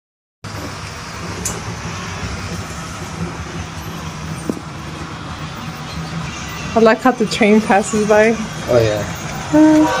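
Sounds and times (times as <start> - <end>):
model train rumbling on track: 0.5 - 10.0.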